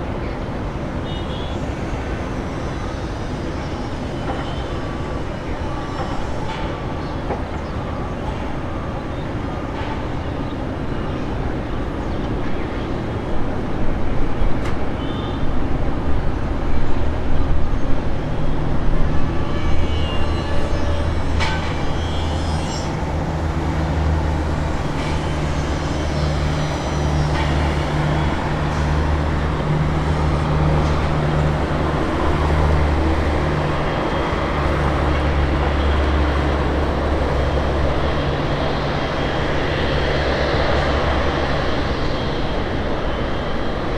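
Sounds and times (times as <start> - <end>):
traffic noise: 0.0 - 43.9.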